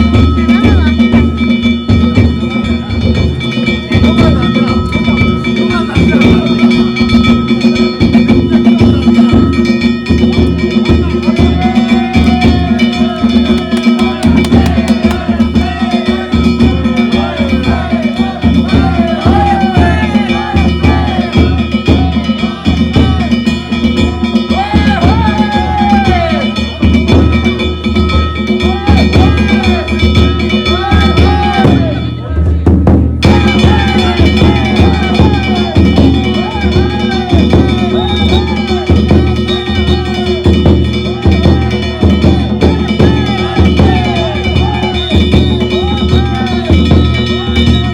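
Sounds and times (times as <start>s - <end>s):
small hand gongs ringing: 0.0s - 32.2s, 33.2s - 47.9s
big drum beating: 0.0s - 47.9s.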